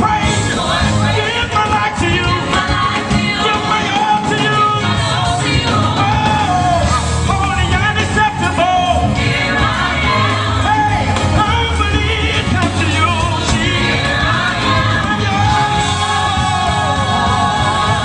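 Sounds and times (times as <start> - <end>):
gospel choir singing: 0.0 - 18.0
live band playing: 0.0 - 18.0
steady bass line: 0.0 - 18.0.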